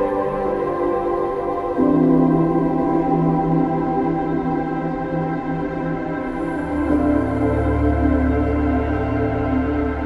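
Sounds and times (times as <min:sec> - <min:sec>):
ambient music with sustained chords: 0:00.0 - 0:10.0.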